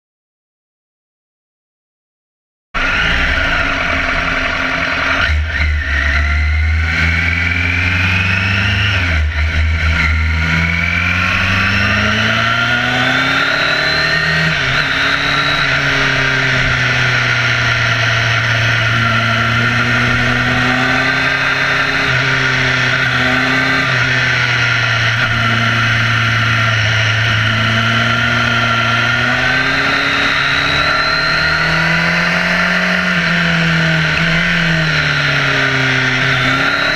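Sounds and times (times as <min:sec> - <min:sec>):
motorcycle engine revving: 0:02.8 - 0:36.9.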